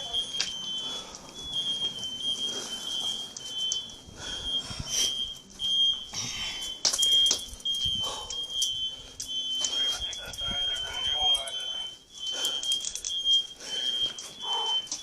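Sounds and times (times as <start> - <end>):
smoke alarm beeping: 0.0 - 15.0.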